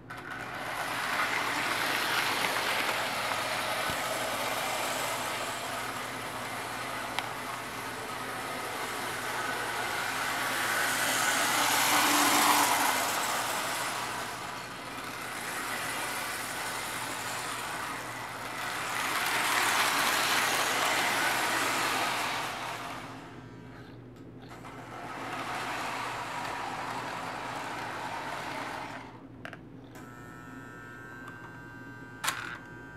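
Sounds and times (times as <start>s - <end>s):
toy train running on track: 0.0s - 23.9s, 24.5s - 29.2s, 30.0s - 32.9s.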